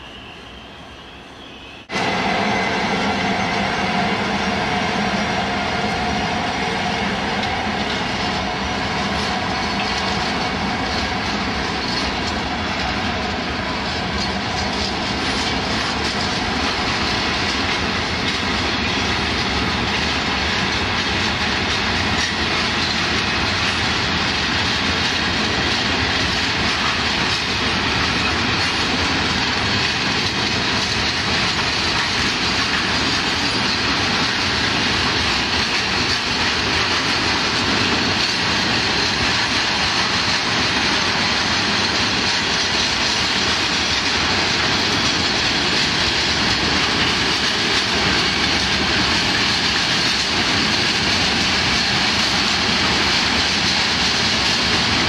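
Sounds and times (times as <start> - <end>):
freight train wheels clattering on rails: 1.8 - 55.0.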